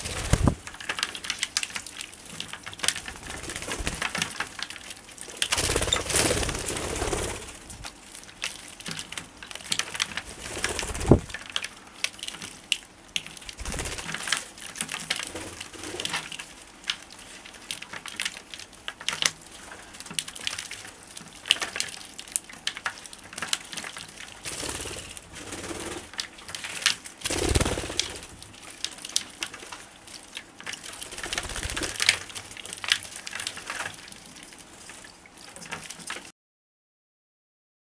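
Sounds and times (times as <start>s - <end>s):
wing-flapping and splashing: 0.0s - 36.3s.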